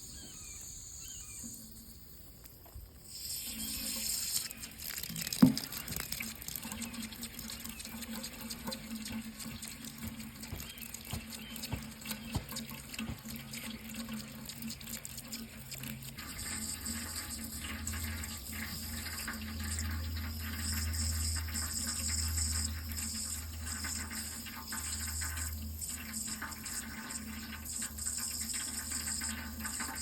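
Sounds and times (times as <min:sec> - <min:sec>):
tap water running into sink: 0:03.2 - 0:30.0.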